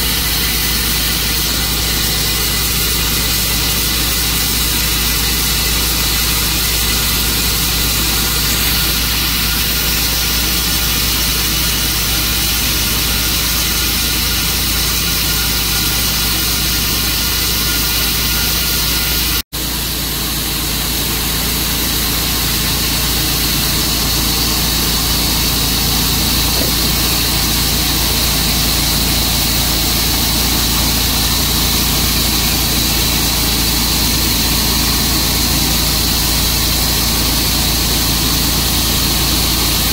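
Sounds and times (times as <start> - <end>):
bandsaw sawmill engine running: 0.0 - 39.9.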